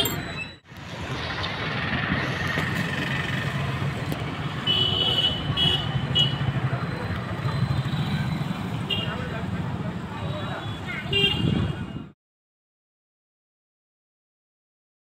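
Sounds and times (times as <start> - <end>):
street traffic rumble: 0.0 - 12.2.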